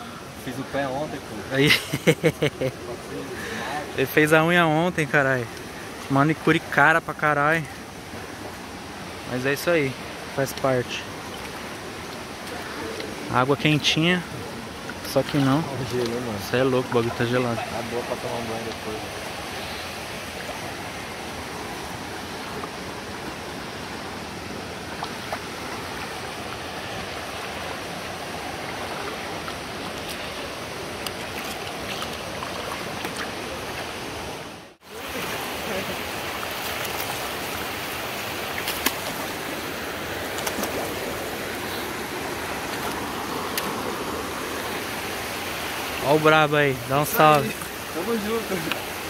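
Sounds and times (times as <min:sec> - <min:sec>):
river water running: 0:00.0 - 0:49.0.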